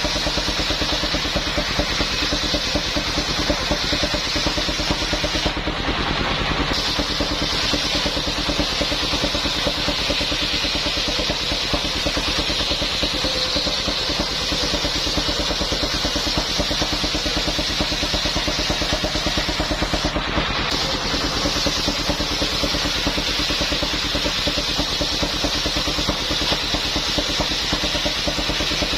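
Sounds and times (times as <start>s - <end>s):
constant high-pitched saw noise: 0.0s - 28.9s
sawmill engine pulsing: 0.0s - 28.9s.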